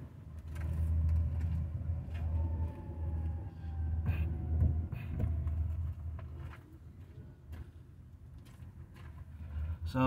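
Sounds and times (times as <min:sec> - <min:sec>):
motor vehicle rumble: 0:00.0 - 0:10.0.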